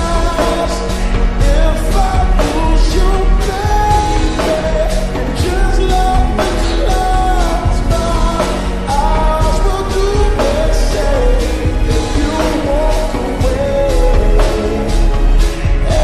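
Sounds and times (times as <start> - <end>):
band with steady beat: 0.0 - 16.0
man singing: 0.0 - 16.0.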